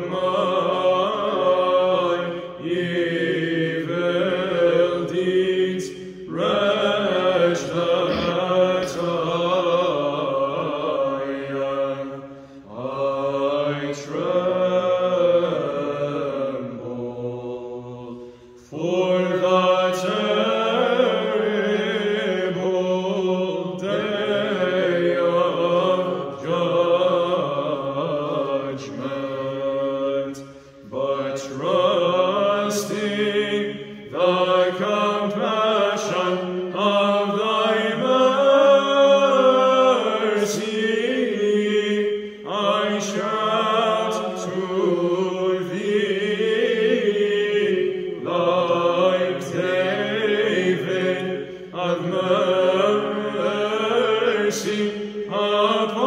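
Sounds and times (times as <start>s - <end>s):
group chanting melody: 0.0s - 56.0s
held vocal drone: 0.0s - 56.0s.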